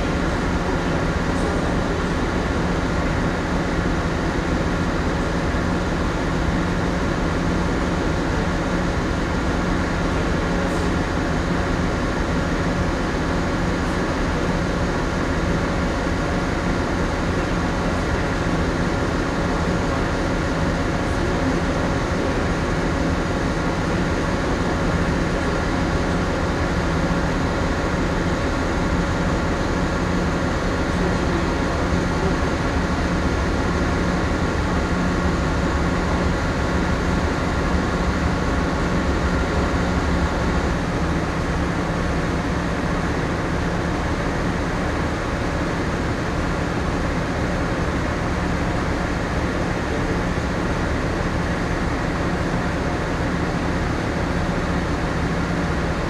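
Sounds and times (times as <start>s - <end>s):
ship machinery and ventilation hum: 0.0s - 56.0s.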